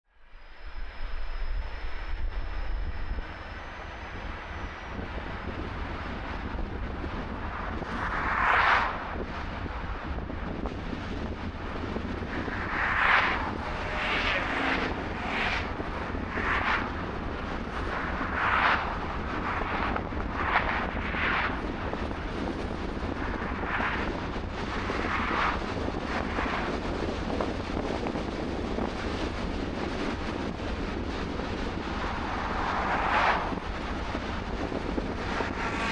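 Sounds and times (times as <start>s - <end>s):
car road noise rumble: 0.2s - 35.9s.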